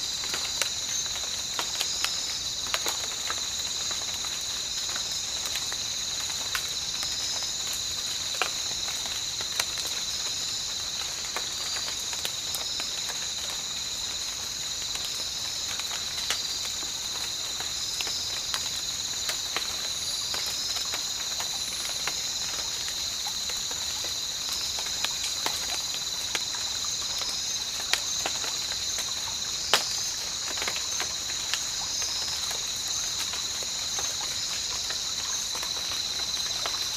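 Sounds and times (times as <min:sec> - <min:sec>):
insects chirping: 0:00.0 - 0:36.9.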